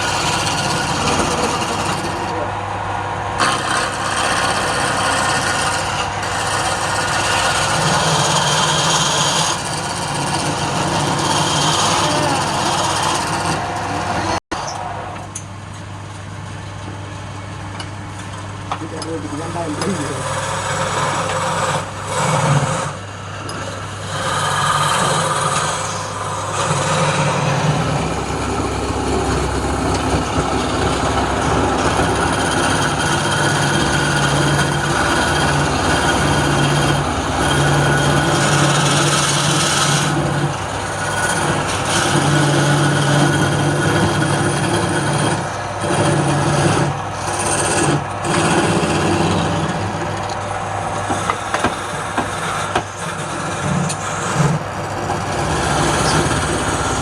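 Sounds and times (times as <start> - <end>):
tool cutting spinning wood: 0.0 - 14.8, 18.7 - 57.0
lathe motor hum: 0.0 - 14.9, 18.2 - 57.0.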